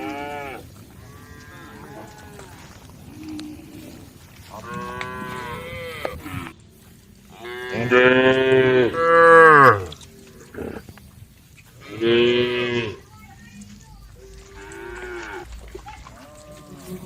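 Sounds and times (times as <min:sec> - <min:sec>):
cattle mooing: 0:00.0 - 0:06.5, 0:07.3 - 0:10.8, 0:11.8 - 0:13.0, 0:14.2 - 0:17.0.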